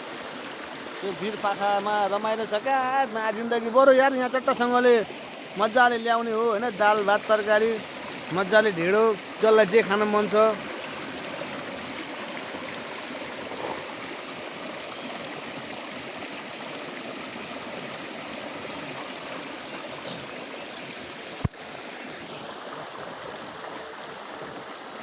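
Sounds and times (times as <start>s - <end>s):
stream flowing over rocks: 0.0s - 25.0s.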